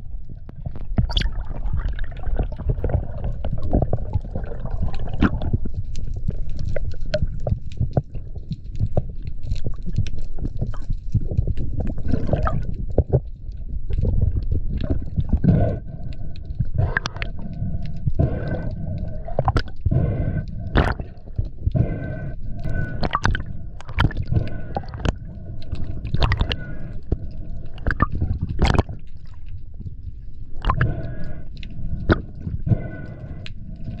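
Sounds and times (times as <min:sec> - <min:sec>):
low underwater rumble: 0:00.0 - 0:34.0.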